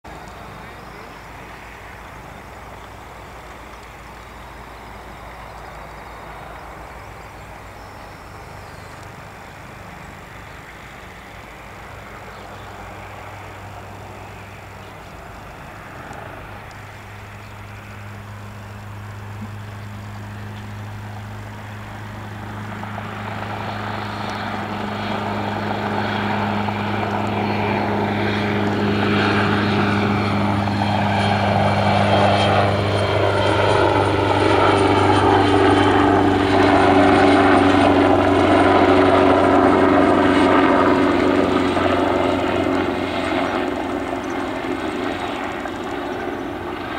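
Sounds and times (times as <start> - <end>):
helicopter drone: 0.1 - 46.9
turbine whining: 0.1 - 46.9.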